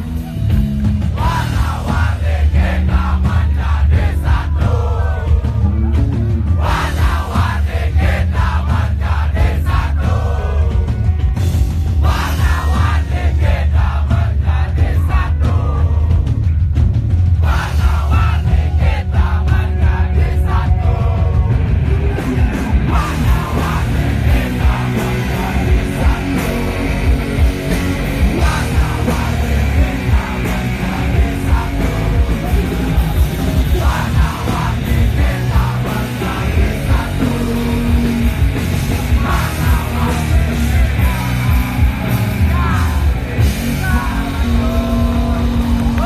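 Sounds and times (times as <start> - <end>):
bass guitar: 0.0 - 46.0
drums: 0.0 - 46.0
electric guitars: 0.0 - 46.0.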